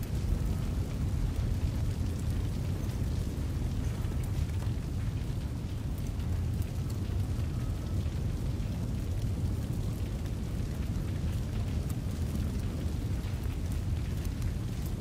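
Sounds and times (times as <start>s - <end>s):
fire crackling: 0.0s - 15.0s
fire flames rushing: 0.0s - 15.0s.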